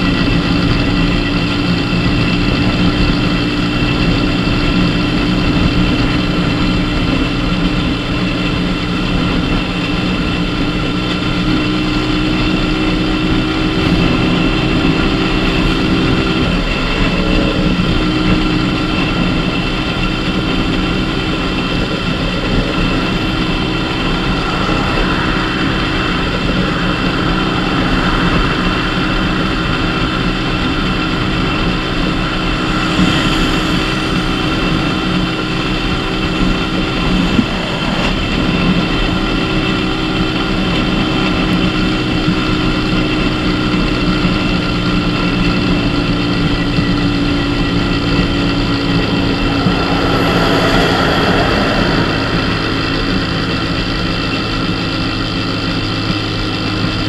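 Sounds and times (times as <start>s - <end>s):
small motorcycle engine running: 0.0s - 57.0s
wind and road noise: 0.0s - 57.0s.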